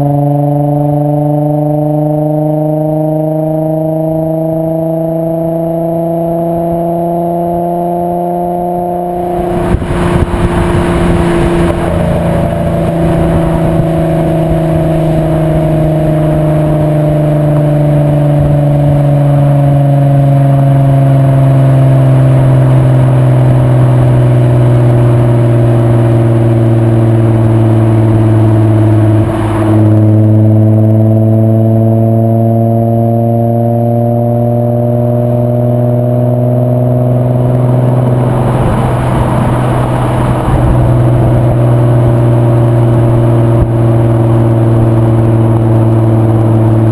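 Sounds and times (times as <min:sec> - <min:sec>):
car engine droning: 0:00.0 - 0:46.9.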